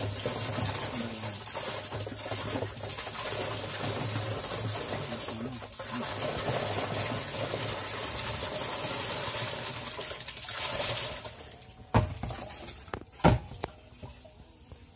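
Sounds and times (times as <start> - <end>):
fish pouring into plastic drum: 0.0 - 13.2.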